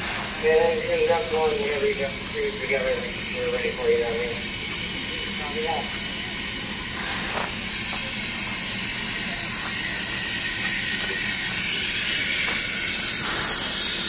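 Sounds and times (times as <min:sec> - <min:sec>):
locomotive venting steam: 0:00.0 - 0:14.0.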